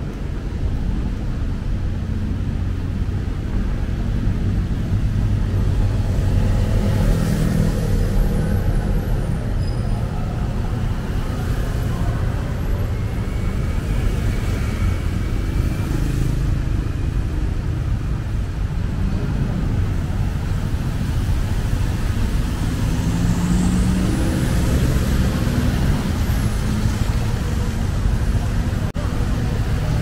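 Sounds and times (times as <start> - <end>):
road traffic rumble: 0.0 - 30.0
vehicles passing: 0.0 - 30.0.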